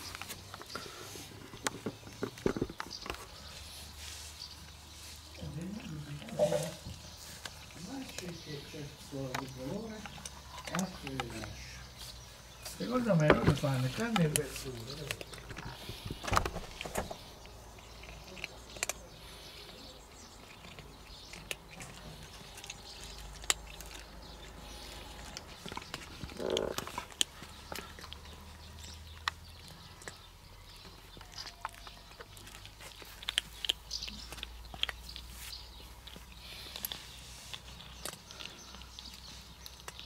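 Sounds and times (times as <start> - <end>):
cats crunching dry kibble: 0.0 - 40.0.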